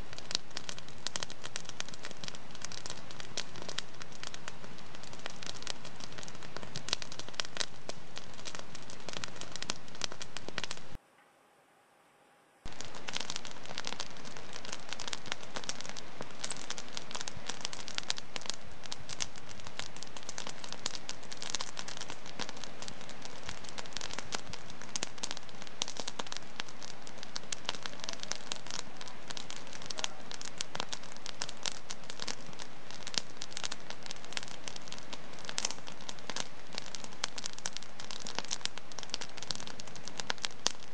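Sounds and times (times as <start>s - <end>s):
wood fire crackling: 0.0s - 11.0s, 12.6s - 40.9s.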